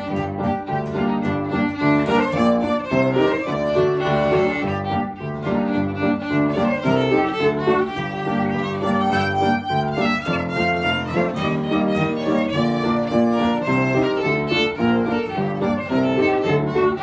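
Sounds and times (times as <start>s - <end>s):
fiddles playing dance tune: 0.0s - 17.0s
piano: 0.0s - 17.0s.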